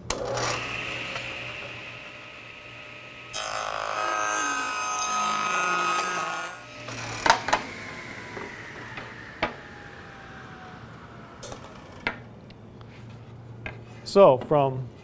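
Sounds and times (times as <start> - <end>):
table saw whine: 0.0 - 12.8
saw blade spinning down: 0.1 - 12.5.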